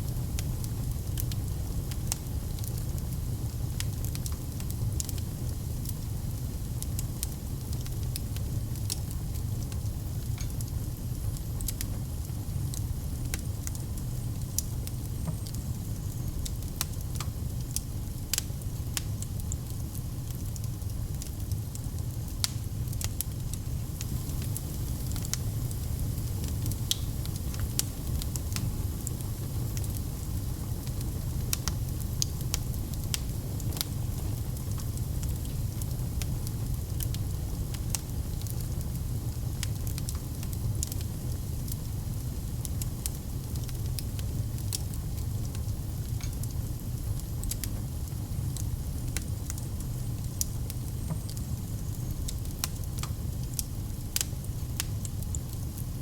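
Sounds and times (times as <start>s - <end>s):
wood fire crackling: 0.0s - 56.0s
burning logs rumbling: 8.3s - 55.8s.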